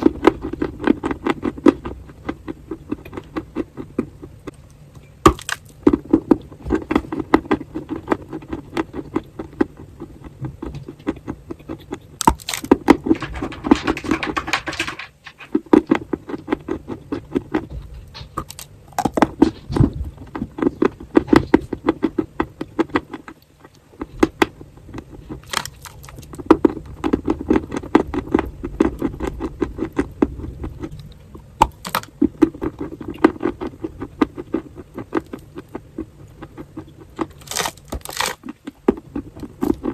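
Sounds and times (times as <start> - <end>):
chewing crumbly clay: 0.0 - 39.9.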